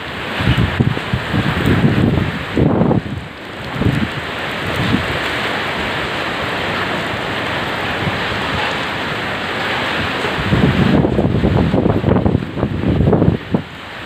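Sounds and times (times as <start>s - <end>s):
heavy rain hissing: 0.0s - 14.0s
wind buffeting microphone: 0.0s - 14.0s.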